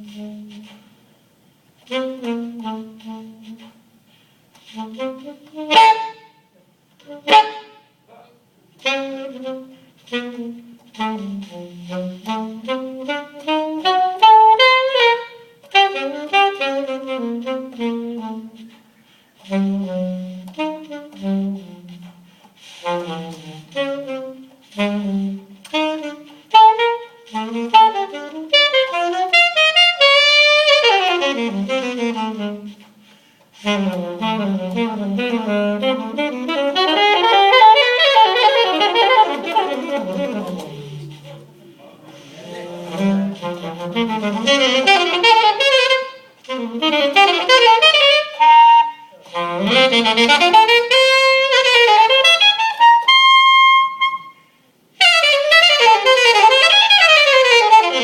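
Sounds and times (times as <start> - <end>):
saxophone jazz solo: 0.0 - 58.0.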